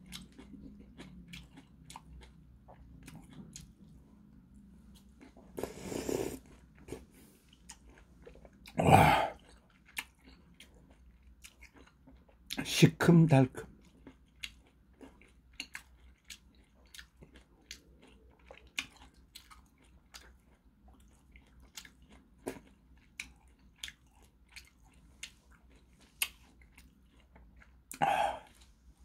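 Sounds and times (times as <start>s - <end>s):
man chewing food: 0.0s - 12.6s, 13.7s - 29.0s.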